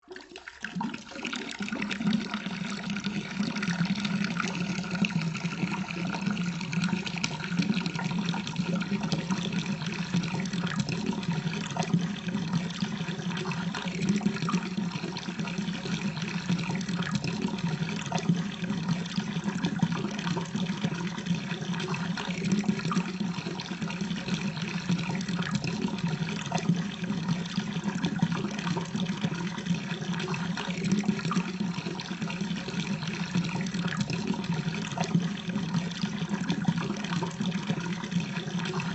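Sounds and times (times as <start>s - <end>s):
liquid stream into water: 0.0s - 38.9s.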